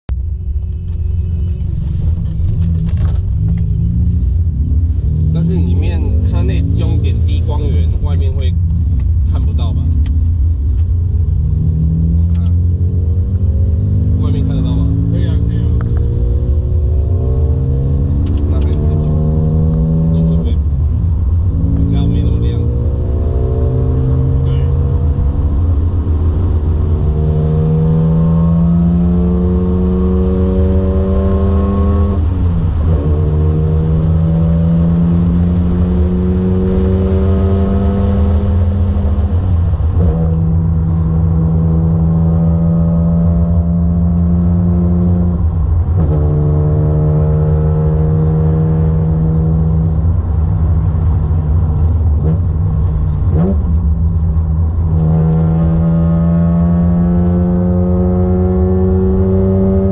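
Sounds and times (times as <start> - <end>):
low road rumble: 0.0 - 59.9
car engine accelerating through gears: 0.4 - 59.9.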